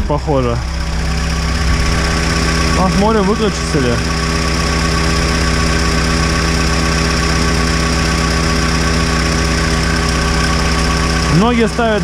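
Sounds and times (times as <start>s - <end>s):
car engine idling: 0.0s - 12.0s
radiator cooling fan running: 0.0s - 12.0s.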